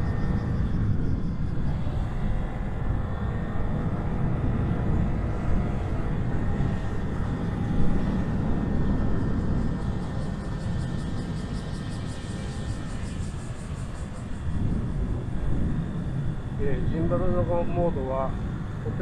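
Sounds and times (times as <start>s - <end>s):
faint steady tones: 0.0s - 19.0s
low outdoor rumble: 0.0s - 19.0s.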